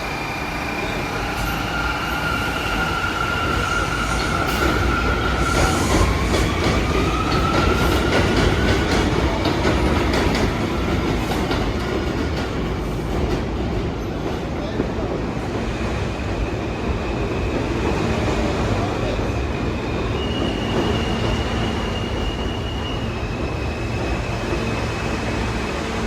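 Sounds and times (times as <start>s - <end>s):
subway train high whine: 0.0s - 26.0s.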